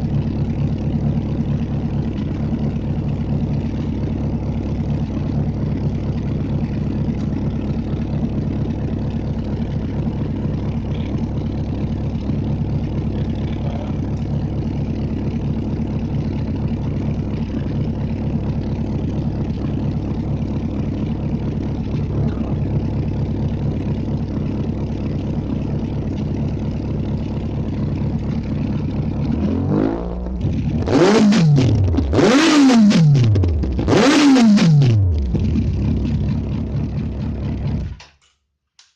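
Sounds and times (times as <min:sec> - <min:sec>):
motorcycle engine idling: 0:00.0 - 0:38.1
motorcycle engine revving: 0:00.0 - 0:38.1.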